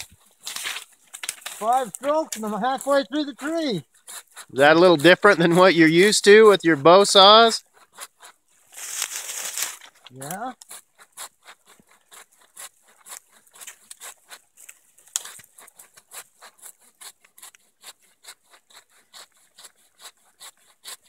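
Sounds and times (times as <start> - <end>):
hand saw cutting wood: 0.0 - 21.0.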